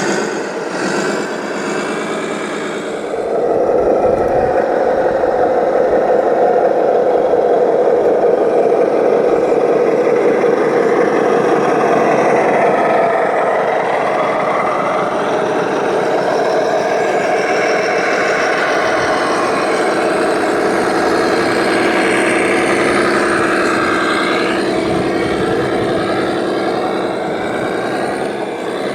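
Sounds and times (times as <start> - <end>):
model truck motor whining: 0.0 - 28.9.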